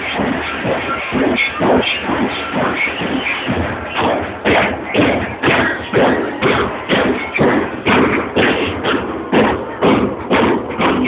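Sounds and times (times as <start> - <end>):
bass drums beating: 0.0 - 11.0.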